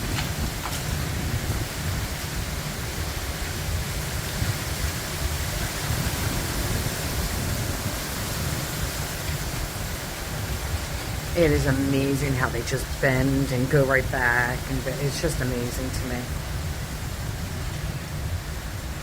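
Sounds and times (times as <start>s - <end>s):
wind gusting through trees: 0.0s - 19.0s
wind rumble on microphone: 0.0s - 19.0s.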